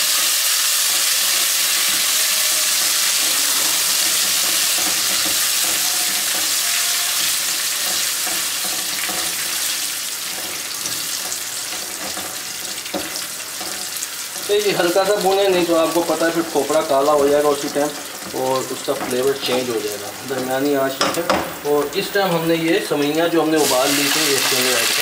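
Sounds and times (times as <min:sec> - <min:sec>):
nuts sizzling in ghee: 0:00.0 - 0:25.0.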